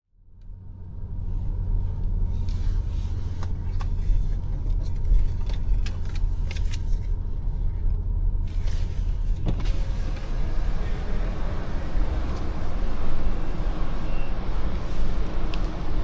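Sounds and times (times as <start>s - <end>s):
car engine and road rumble: 0.1s - 16.0s.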